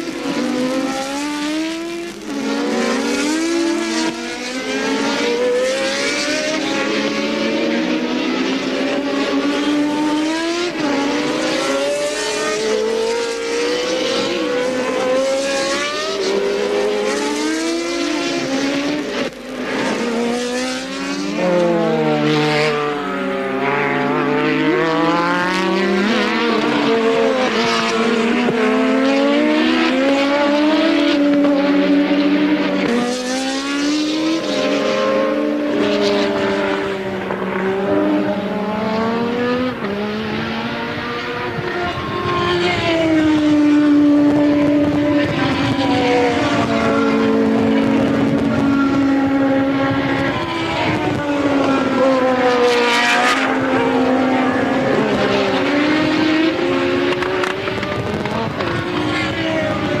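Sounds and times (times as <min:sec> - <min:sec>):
racing car engines revving: 0:00.0 - 1:00.0.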